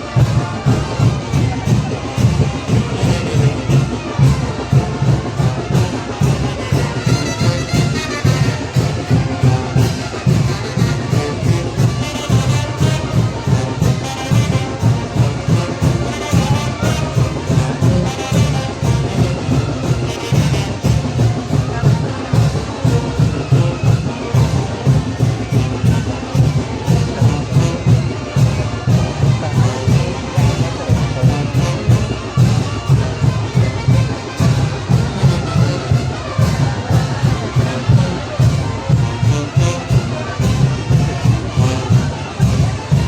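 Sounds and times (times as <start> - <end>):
brass band playing dance music: 0.0 - 43.0
driving drum beat: 0.0 - 43.0
trumpets and trombones: 0.0 - 43.0.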